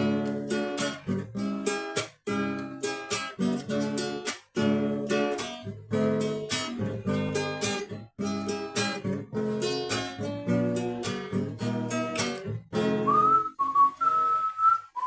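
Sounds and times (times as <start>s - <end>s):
acoustic guitar strumming chords: 0.0s - 14.5s.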